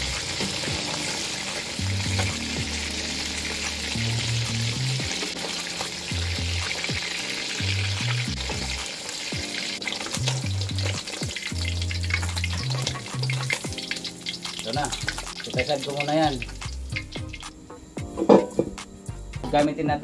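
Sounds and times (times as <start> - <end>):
background music with bass: 0.0 - 9.5, 10.1 - 14.0, 14.6 - 20.0
fish sizzling in hot oil: 0.0 - 18.6.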